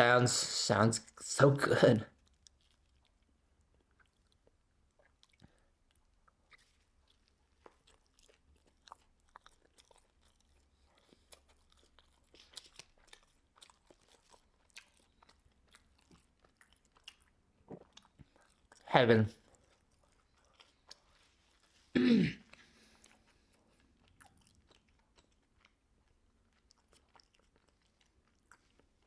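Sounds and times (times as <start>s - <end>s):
person chewing food crunching: 2.1s - 29.0s.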